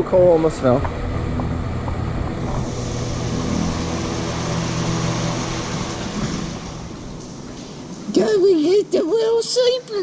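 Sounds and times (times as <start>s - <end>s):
ventilation fan hum: 0.0s - 10.0s.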